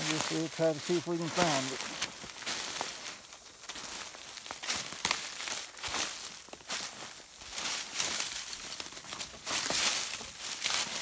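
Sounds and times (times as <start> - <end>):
footsteps crunching on dry leaves: 0.0 - 11.0.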